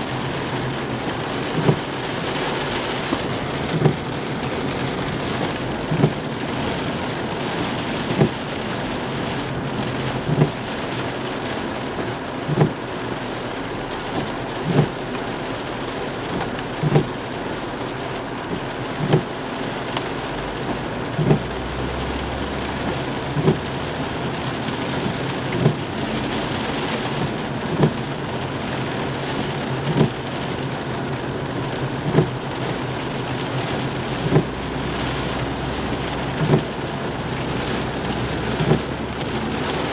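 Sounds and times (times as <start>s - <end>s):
windshield wiper thumping: 0.0s - 10.8s, 12.0s - 13.0s, 14.1s - 15.2s, 16.2s - 17.3s, 18.4s - 21.7s, 22.8s - 34.9s, 36.0s - 39.9s
heavy rain on a car roof: 0.0s - 39.9s.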